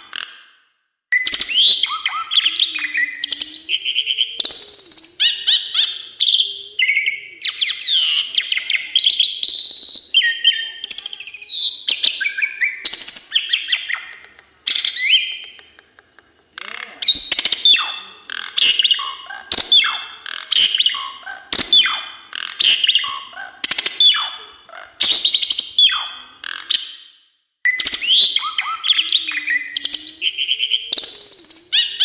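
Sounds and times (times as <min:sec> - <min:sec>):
starling singing whistles and trills: 0:01.1 - 0:15.6, 0:16.6 - 0:32.0.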